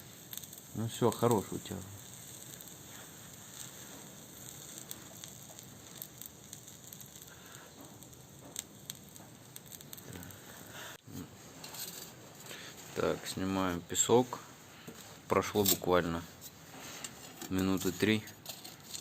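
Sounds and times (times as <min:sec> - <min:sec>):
cooling metal sizzling and crackling: 0:00.0 - 0:19.0.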